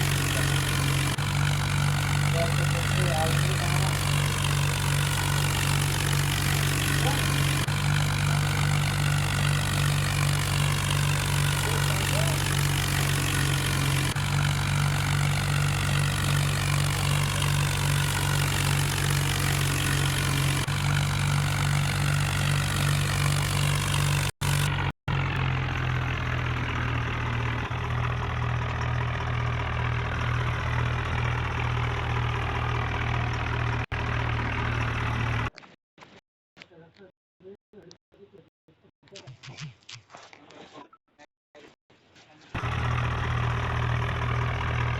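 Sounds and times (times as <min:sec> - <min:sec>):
tractor engine droning: 0:00.0 - 0:35.5, 0:42.6 - 0:44.9.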